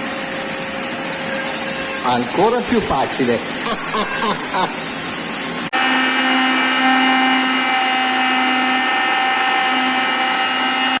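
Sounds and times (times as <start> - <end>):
shop vacuum running: 0.0 - 11.0.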